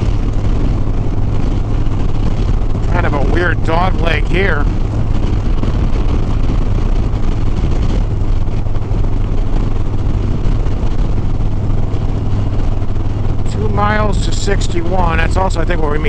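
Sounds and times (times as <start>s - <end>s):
motorcycle engine drone: 0.0s - 16.0s
wind and road noise: 0.0s - 16.0s.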